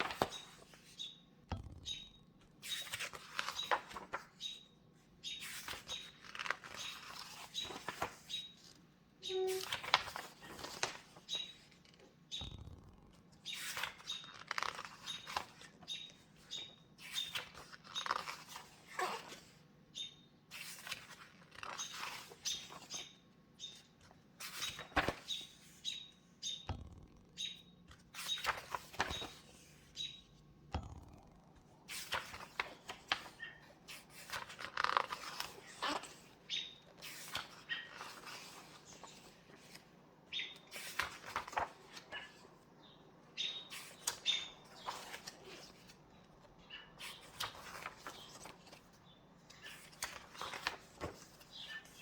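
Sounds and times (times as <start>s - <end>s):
book pages turning: 0.0s - 1.9s, 2.5s - 4.5s, 5.4s - 19.6s, 20.5s - 30.2s, 30.8s - 46.4s, 47.0s - 52.0s.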